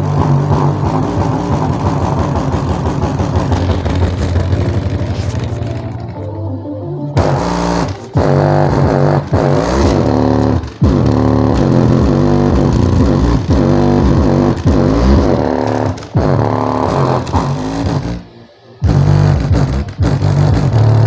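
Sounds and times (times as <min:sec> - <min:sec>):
bass-heavy music through subwoofer: 0:00.0 - 0:21.0.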